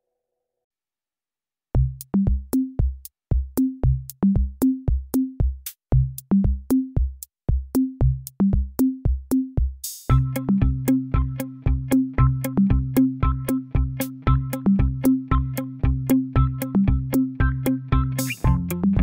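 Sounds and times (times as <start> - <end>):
electronic drum machine beat: 1.8 - 19.0.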